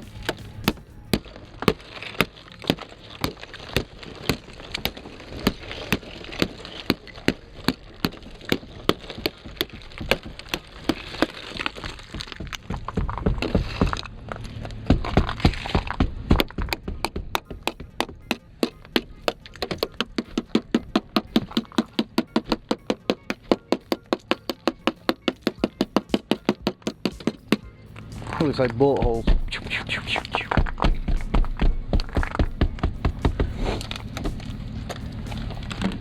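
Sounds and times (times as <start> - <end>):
ice cracking knocks: 0.0 - 29.5.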